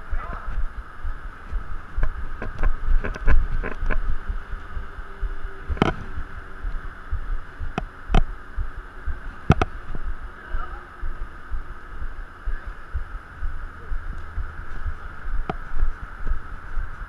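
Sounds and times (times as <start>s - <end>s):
low thumping and rumble: 0.0s - 17.0s.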